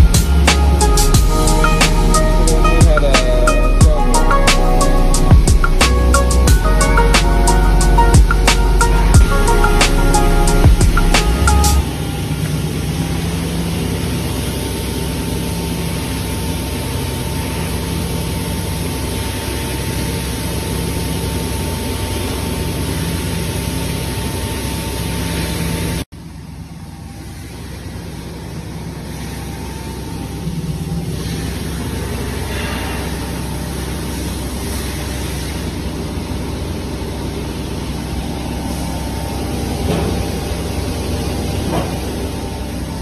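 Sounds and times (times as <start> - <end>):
machine motor and fan whirring: 0.0 - 43.0.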